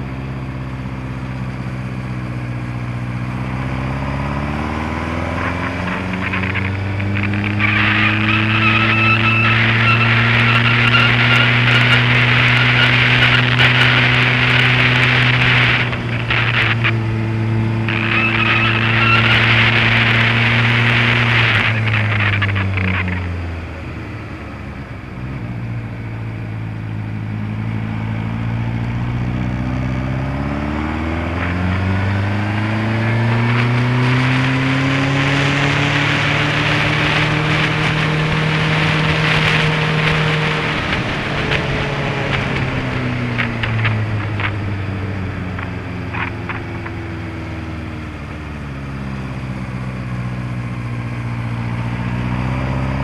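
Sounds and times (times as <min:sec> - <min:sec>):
motorcycle engine while riding: 0:00.0 - 0:53.0.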